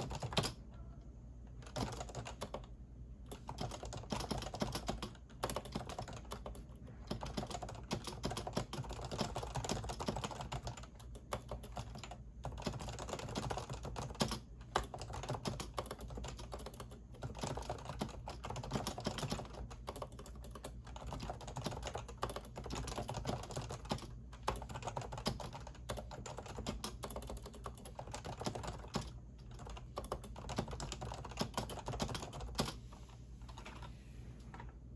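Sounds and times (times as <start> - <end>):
fast keyboard typing: 0.0 - 0.6, 1.6 - 32.8.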